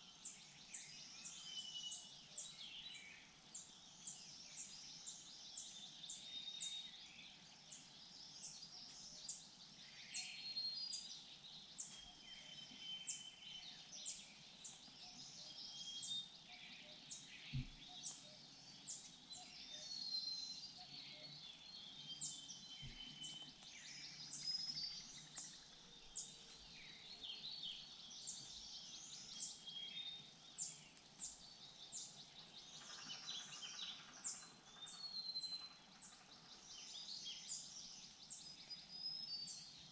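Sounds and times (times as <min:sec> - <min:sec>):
birds calling and singing: 0:00.0 - 0:39.9.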